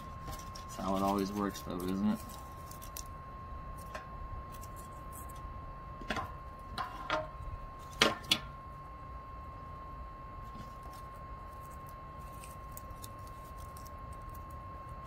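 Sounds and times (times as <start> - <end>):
stove fan humming: 0.0 - 15.0.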